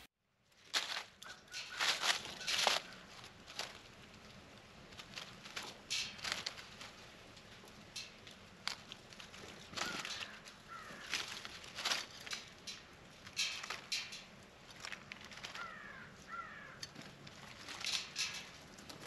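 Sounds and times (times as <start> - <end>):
birds pecking at peanuts: 0.5 - 19.0.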